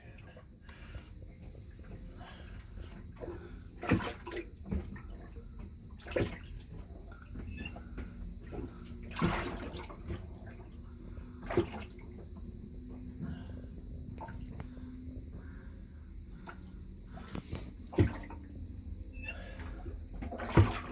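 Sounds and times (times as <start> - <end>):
water sloshing and splashing: 0.0 - 20.9.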